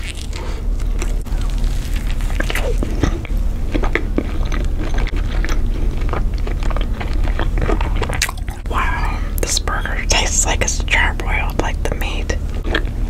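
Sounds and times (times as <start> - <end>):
person chewing with mouth clicks: 0.0 - 10.2, 12.5 - 13.0.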